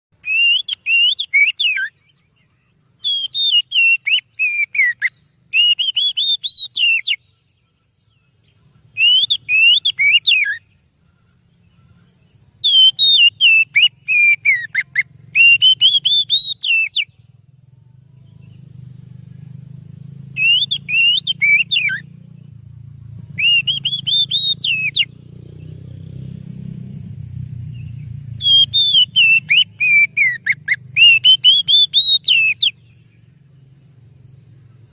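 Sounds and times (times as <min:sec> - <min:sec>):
bird singing warbling phrases: 0:00.2 - 0:34.9.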